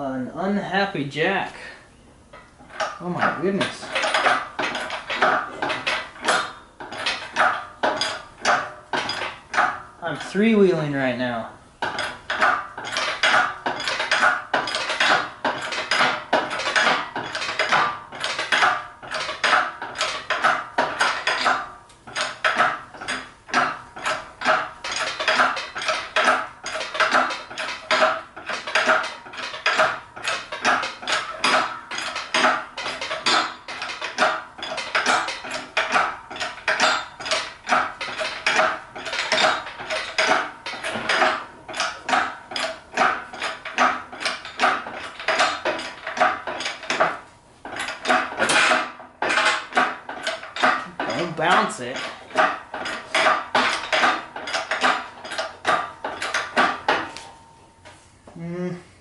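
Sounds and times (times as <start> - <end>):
engine crane clanking and rattling: 2.3 - 57.6.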